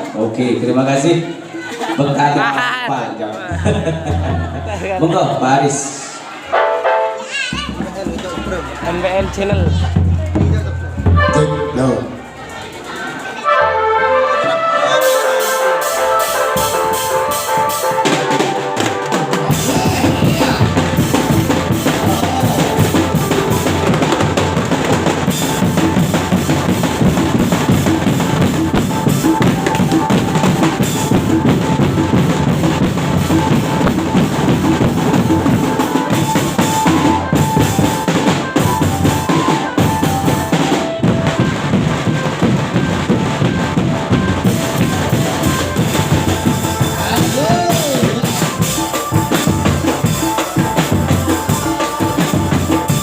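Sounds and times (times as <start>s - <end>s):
loud drum-driven music: 2.2s - 5.9s, 6.5s - 12.3s, 13.5s - 53.0s.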